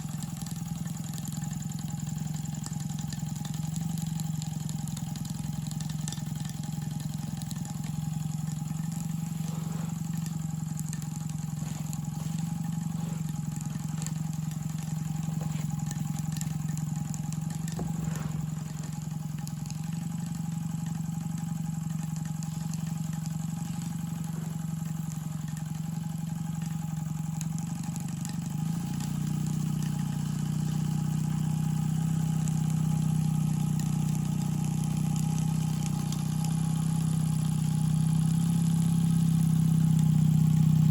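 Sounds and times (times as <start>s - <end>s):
model steam engine running: 0.0s - 40.9s.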